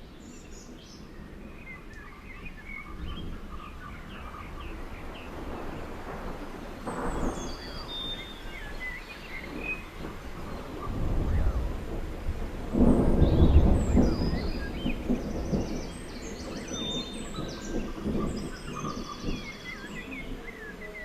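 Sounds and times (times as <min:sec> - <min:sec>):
thunder rumbling: 0:00.7 - 0:21.0.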